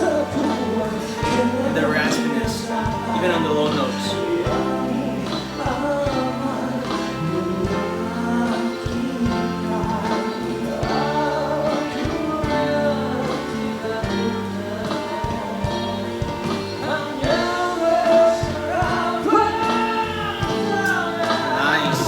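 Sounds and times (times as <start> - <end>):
instrumental backing music: 0.0 - 22.0
man singing: 0.0 - 22.0.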